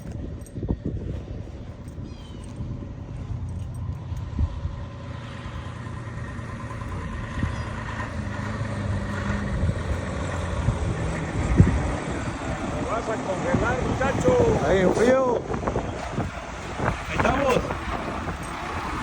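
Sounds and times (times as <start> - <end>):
motor vehicle running: 0.0 - 19.0.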